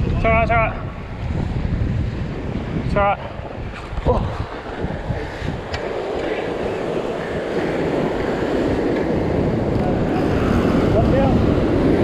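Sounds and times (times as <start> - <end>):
ocean surf washing over rocks: 0.0 - 12.0.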